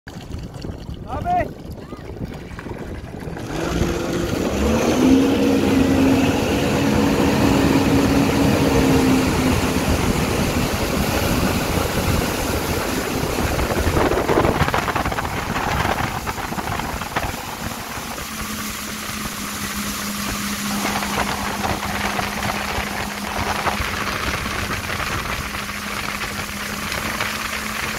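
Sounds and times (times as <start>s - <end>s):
wind: 0.1s - 27.9s
jet ski engine revving: 1.7s - 27.9s
rushing spray: 3.4s - 27.9s.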